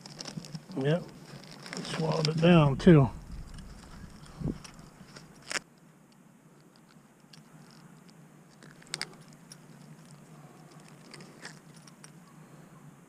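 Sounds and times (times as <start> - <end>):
handling clicks and rustles: 0.0 - 12.4.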